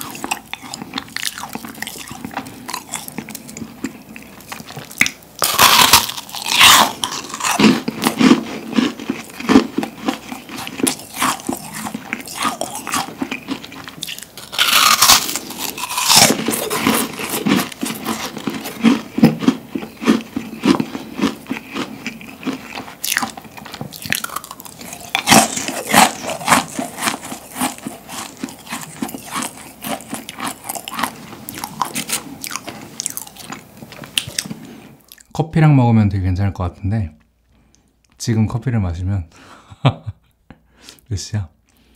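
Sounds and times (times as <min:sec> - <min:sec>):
crisp crunching bites: 0:00.0 - 0:34.5
crackly chewing: 0:00.0 - 0:35.3.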